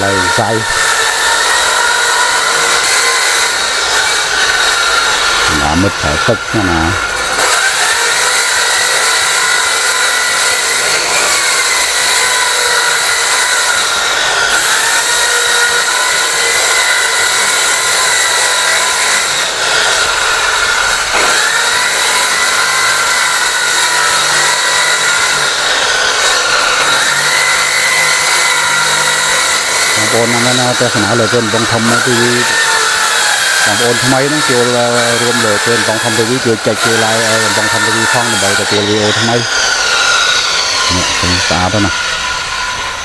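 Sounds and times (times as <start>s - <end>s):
electric hand planer whining: 0.0s - 43.0s.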